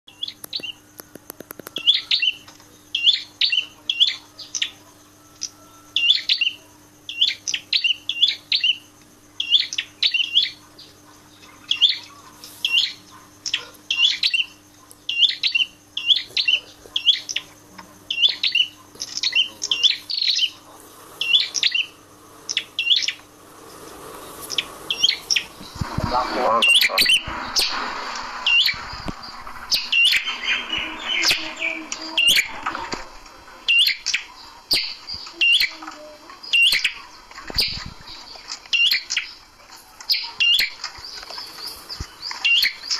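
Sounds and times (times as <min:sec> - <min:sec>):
faint steady hum: 0:00.1 - 0:42.9
songbird chirping: 0:00.1 - 0:42.9.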